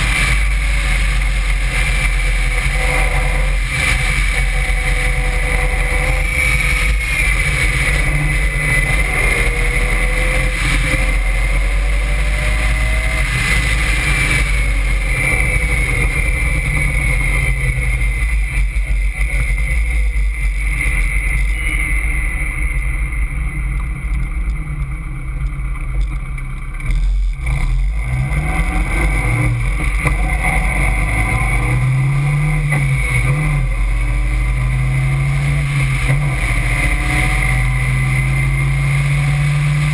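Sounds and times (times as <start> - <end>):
car engine revving at full throttle: 0.0 - 39.9.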